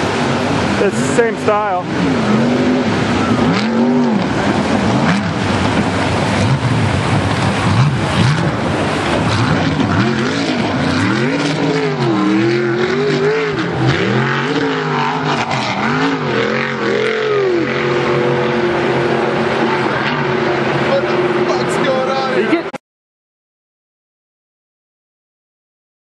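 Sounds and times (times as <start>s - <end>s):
jet boat engine revving: 0.0s - 22.8s
rush of spray and water: 0.0s - 22.8s.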